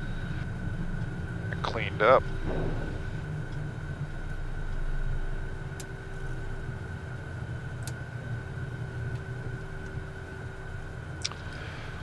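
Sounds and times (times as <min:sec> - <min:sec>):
aircraft engines humming: 0:00.0 - 0:12.0
high engine whine: 0:00.0 - 0:12.0.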